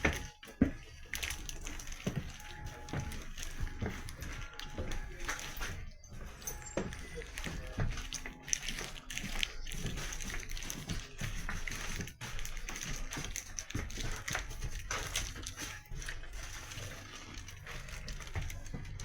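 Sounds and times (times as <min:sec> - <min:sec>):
knocks and rustles: 0:00.0 - 0:19.0.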